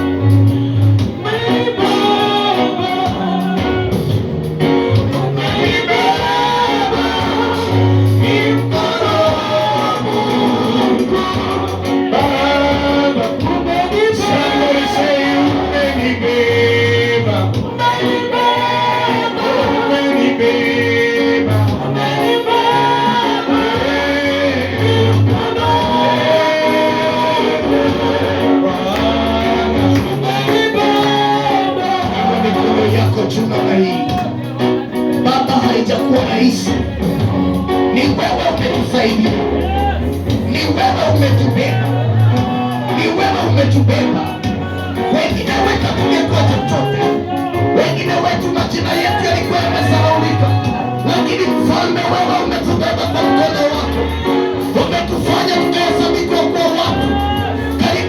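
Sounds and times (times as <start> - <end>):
band accompaniment: 0.0 - 58.0
bass guitar: 0.0 - 58.0
guitar: 0.0 - 58.0
voices singing slow song: 0.0 - 58.0.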